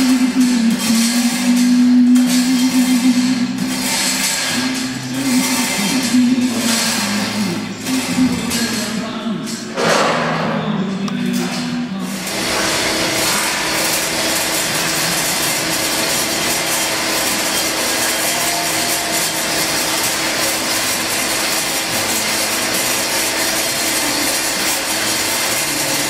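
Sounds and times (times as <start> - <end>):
power tools sawing: 0.0 - 8.8, 12.1 - 26.0.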